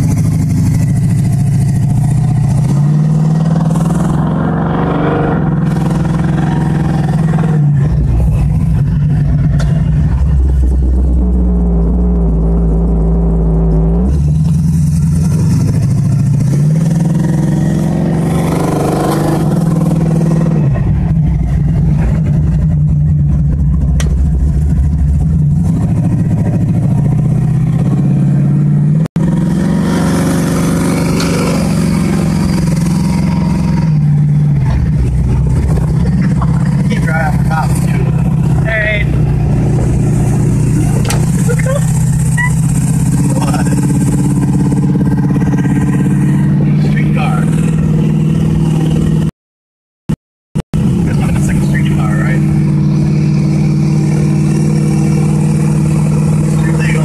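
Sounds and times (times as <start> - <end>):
car engine accelerating: 0.0 - 49.3, 50.8 - 57.0.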